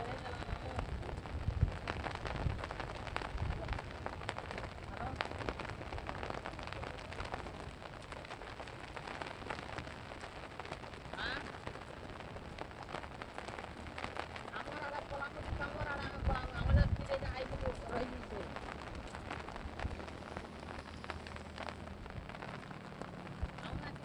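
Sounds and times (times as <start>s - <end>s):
floodwater rushing and splashing: 0.0s - 24.0s.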